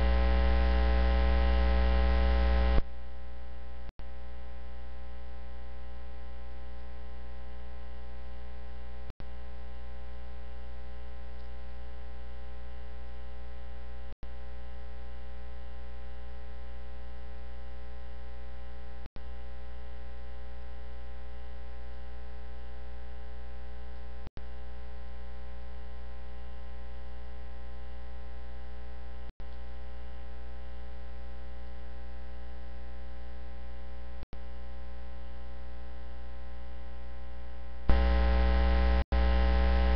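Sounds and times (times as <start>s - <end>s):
electrical mains hum: 0.0s - 34.2s, 37.9s - 39.9s.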